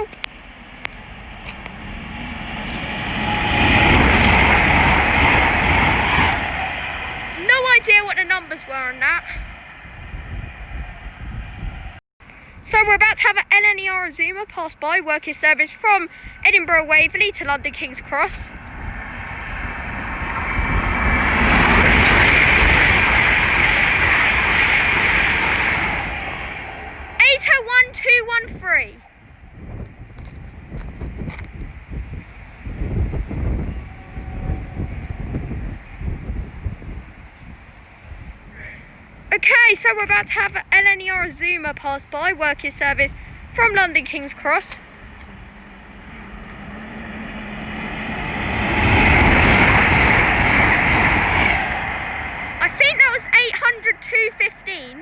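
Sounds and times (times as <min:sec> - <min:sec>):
express train passing at speed: 0:00.0 - 0:55.0.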